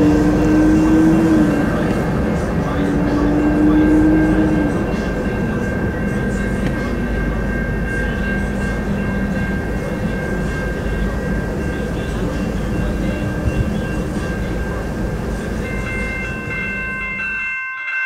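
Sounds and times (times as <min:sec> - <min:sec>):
train wheels rumbling on rails: 0:00.0 - 0:17.5
crossing warning bell: 0:00.0 - 0:18.0.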